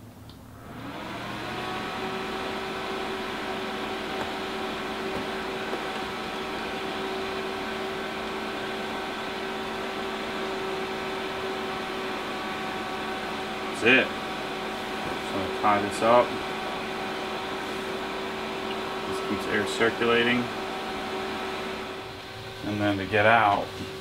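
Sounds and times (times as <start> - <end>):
electric blower fan humming: 0.0 - 24.0.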